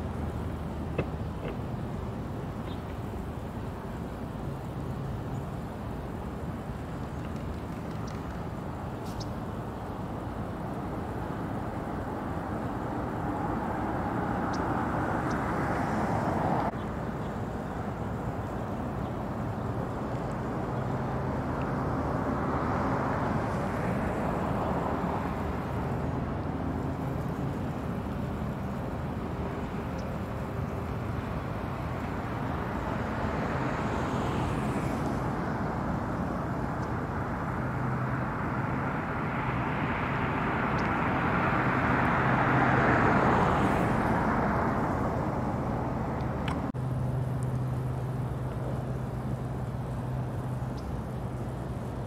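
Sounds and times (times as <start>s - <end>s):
distant road traffic: 0.0s - 52.0s.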